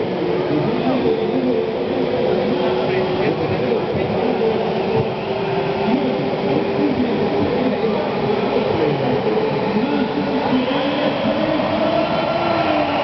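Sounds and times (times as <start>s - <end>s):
arena crowd din: 0.0s - 13.0s.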